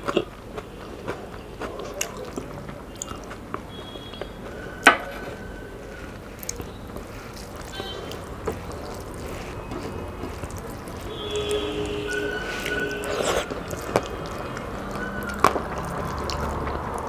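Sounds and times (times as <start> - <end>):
wet squishing of food by hand: 0.0 - 17.0.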